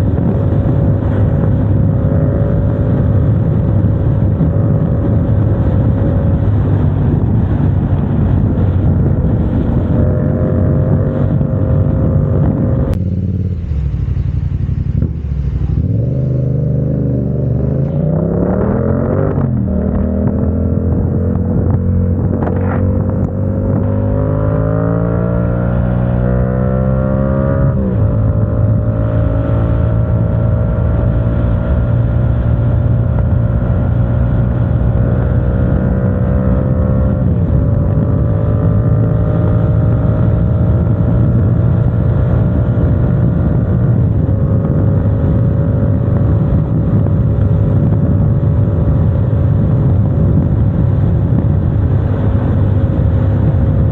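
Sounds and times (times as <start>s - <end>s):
motorcycle engine shifting gears: 0.0s - 53.9s.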